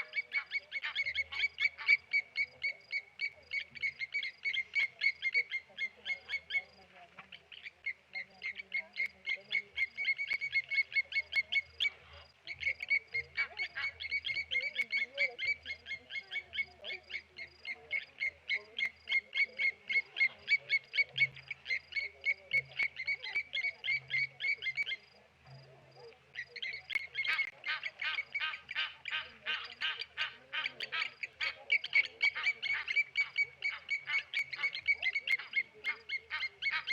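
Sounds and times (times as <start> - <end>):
lapwings metallic alarm calls: 0.0 - 25.0, 26.3 - 36.9.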